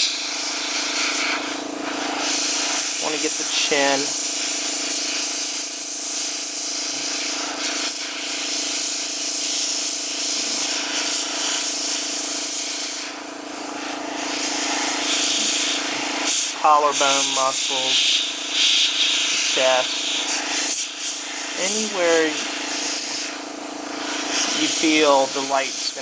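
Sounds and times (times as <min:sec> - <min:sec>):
airbrush spraying paint: 0:00.0 - 0:26.0.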